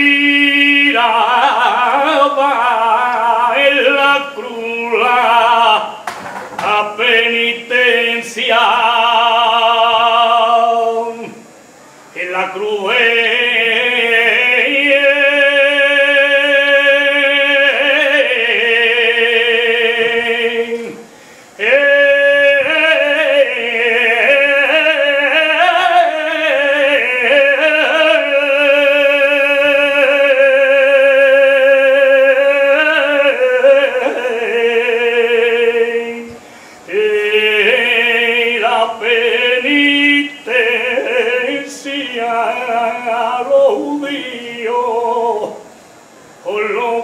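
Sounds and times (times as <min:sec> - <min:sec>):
man singing unaccompanied: 0:00.0 - 0:47.0.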